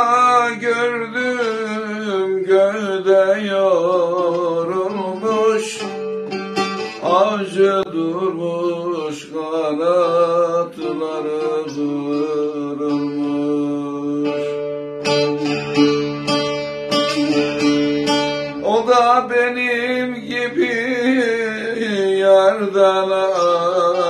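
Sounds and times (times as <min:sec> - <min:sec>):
long-necked lute playing: 0:00.0 - 0:24.0
man singing folk song: 0:00.0 - 0:24.0.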